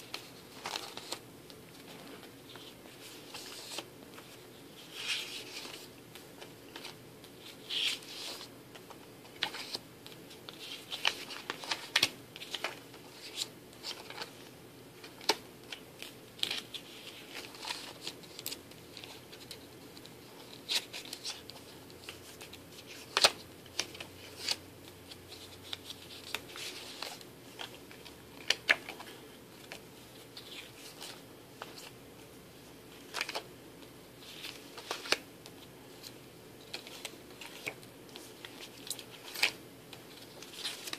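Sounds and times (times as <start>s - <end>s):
paper pages rustling: 0.0s - 32.0s, 32.9s - 33.5s, 34.2s - 40.9s.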